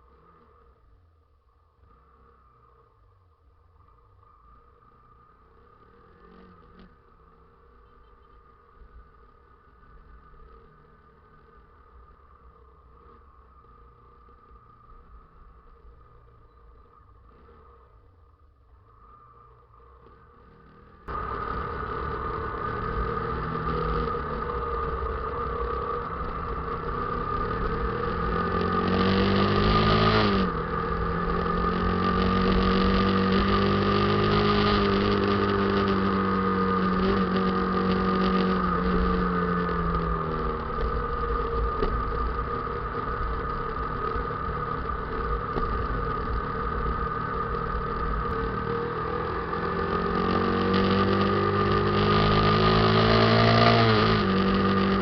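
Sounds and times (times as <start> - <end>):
motorcycle engine revving: 3.8 - 18.3, 19.0 - 55.0.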